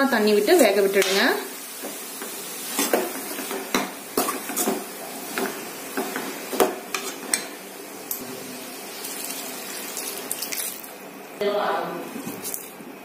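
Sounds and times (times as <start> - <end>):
vegetables frying hiss: 0.0 - 13.0.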